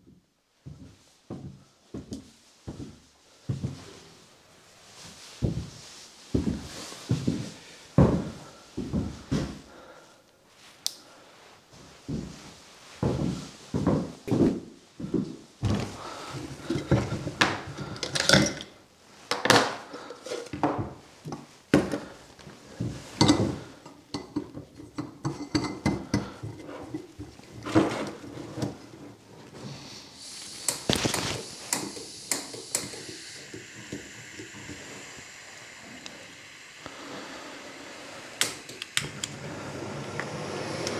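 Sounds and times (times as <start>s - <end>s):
faint gas hiss: 0.4s - 40.9s.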